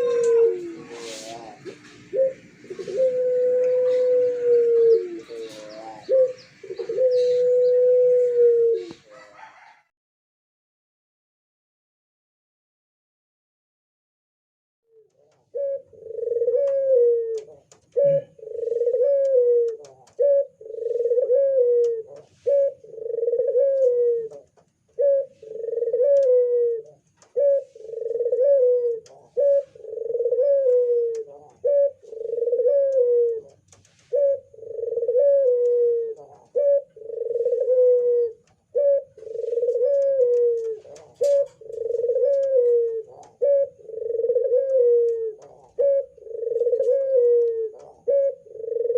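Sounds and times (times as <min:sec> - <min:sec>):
dove cooing: 0:00.0 - 0:09.9, 0:14.9 - 0:48.9.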